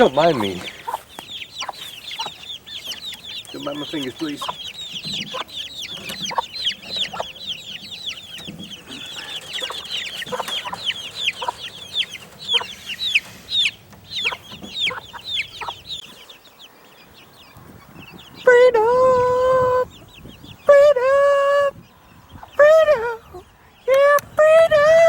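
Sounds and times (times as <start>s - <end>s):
chicks peeping: 0.0s - 25.0s
hen clucking: 0.0s - 25.0s.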